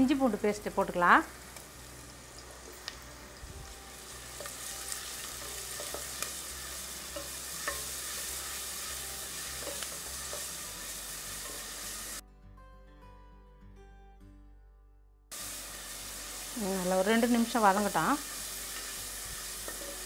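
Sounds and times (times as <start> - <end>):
onions sizzling in hot oil: 0.0 - 12.2, 15.3 - 20.0
background music: 0.0 - 20.0.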